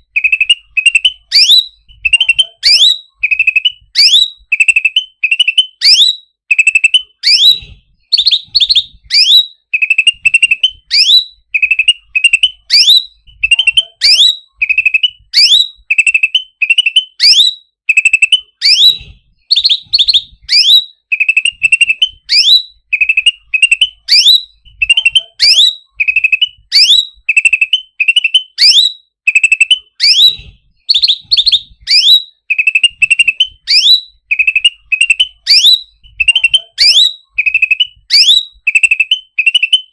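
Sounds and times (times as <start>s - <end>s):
songbird chattering and whistling: 0.0s - 39.9s.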